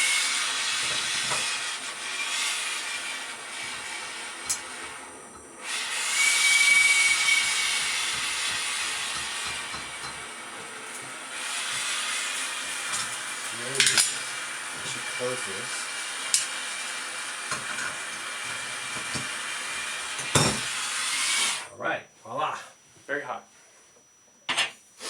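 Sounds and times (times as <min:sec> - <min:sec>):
gas torch flame hissing: 0:00.0 - 0:21.7.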